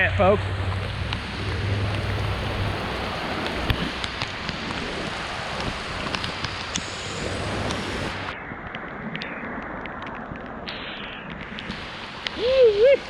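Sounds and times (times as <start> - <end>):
heavy rain pouring: 0.0 - 13.0
wind rumble on microphone: 0.0 - 13.0
raindrops tapping close by: 0.7 - 13.0.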